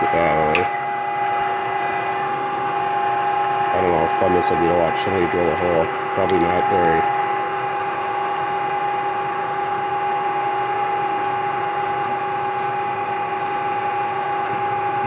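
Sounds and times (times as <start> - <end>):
drill press motor whine: 0.0 - 15.0.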